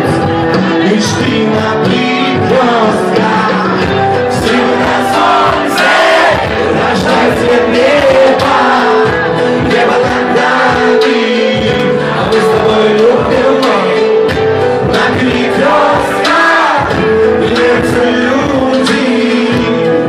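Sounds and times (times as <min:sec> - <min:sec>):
loud backing music with beat: 0:00.0 - 0:20.0
person singing into microphone: 0:00.0 - 0:20.0.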